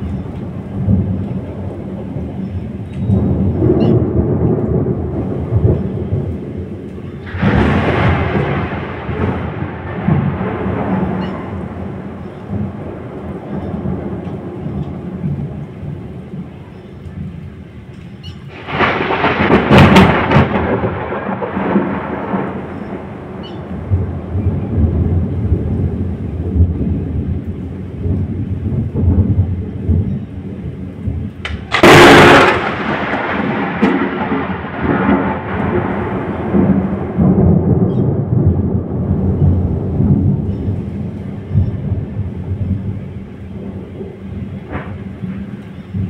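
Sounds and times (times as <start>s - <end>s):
sharp thunderclap: 0.0s - 16.5s, 18.5s - 46.0s
thunder rumbling: 0.0s - 46.0s.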